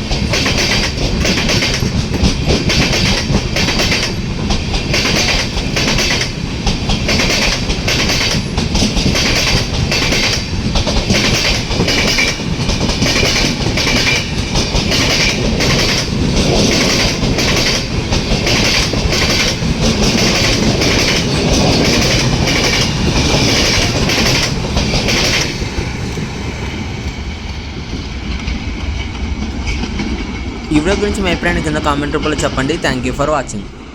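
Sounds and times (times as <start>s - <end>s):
train wheels clickety-clack: 0.0s - 33.0s.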